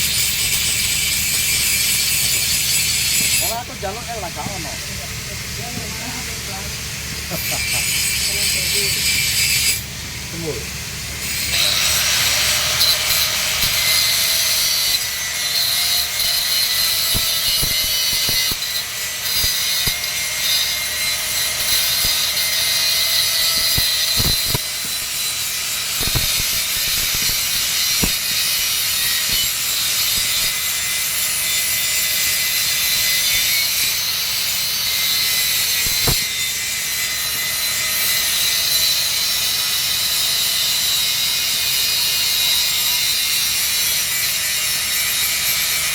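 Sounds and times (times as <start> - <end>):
arc welding crackling hiss: 0.0 - 45.9.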